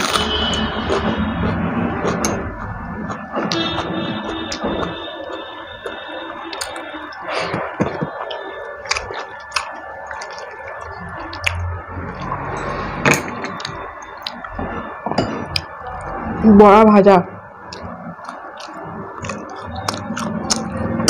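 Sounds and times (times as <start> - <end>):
chewing and mouth sounds: 0.0 - 16.2, 17.6 - 21.0.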